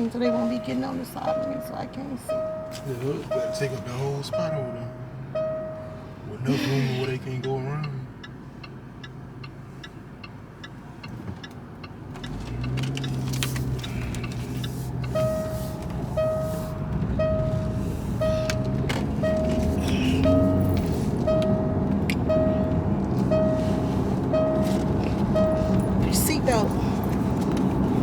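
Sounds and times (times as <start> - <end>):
turn-signal relay ticking: 0.0 - 6.3, 6.9 - 28.0
seatbelt warning chime: 0.0 - 13.2, 13.8 - 27.4
car engine and road noise: 0.0 - 28.0.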